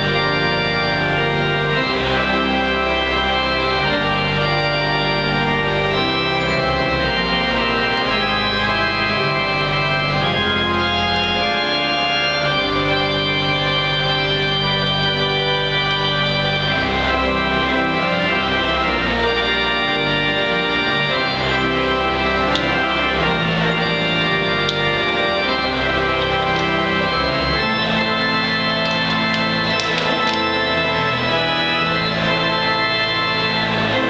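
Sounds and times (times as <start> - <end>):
pipe organ playing chords: 0.0 - 34.0.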